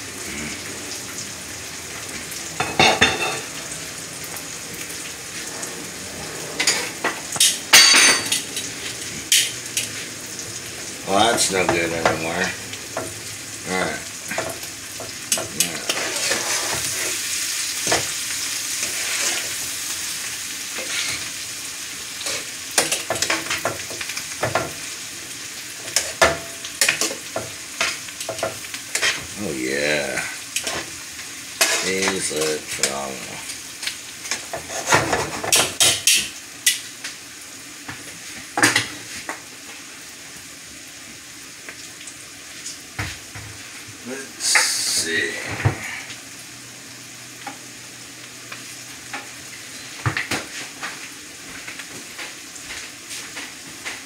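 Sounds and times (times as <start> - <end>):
steak frying in butter: 0.0 - 54.0.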